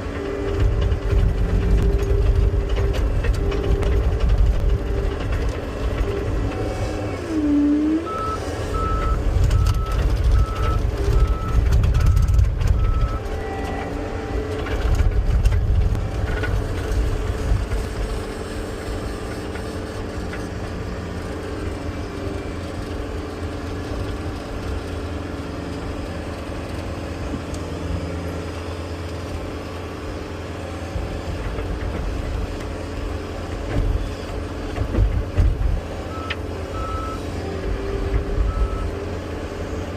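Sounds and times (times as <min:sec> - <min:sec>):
diesel loader engine working: 0:00.0 - 0:39.9.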